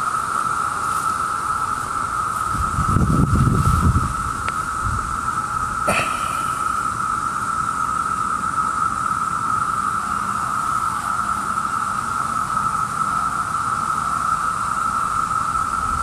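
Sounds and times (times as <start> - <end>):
cicada chorus humming: 0.0 - 16.0.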